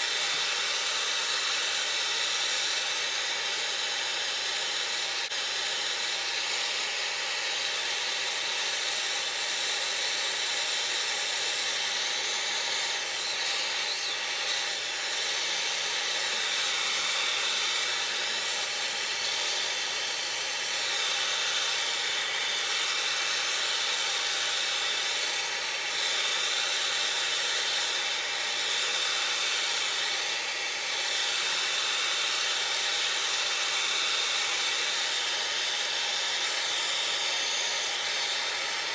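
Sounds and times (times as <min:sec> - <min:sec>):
torch flame hissing: 0:00.0 - 0:38.9.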